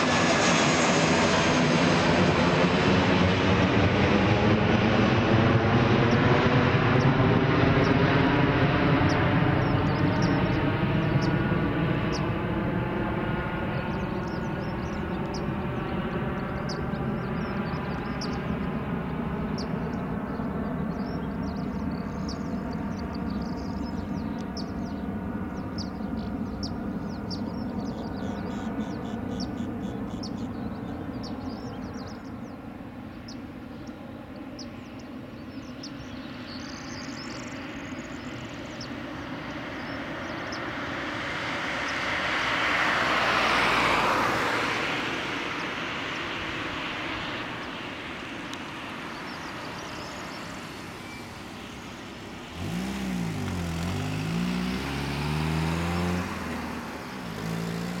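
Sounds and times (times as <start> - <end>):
distant jet engine roar: 0.0 - 58.0
low wavering engine sound: 0.0 - 58.0
birds chirping: 2.7 - 58.0.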